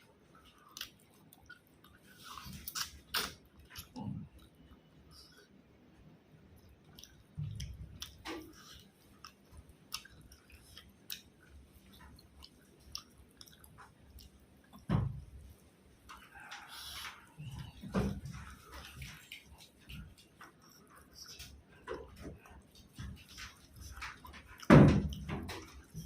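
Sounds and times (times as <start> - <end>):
person chewing and eating: 0.0 - 5.7, 6.3 - 26.0.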